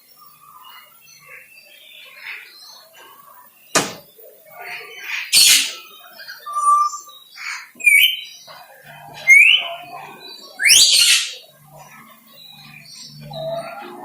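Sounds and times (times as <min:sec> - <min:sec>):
birds squawking and whistling: 0:00.0 - 0:14.0.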